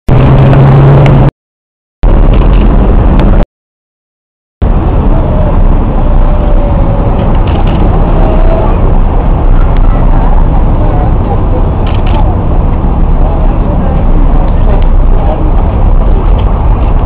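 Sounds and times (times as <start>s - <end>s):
loud steady outdoor noise: 0.0s - 1.3s, 2.0s - 3.4s, 4.6s - 17.0s.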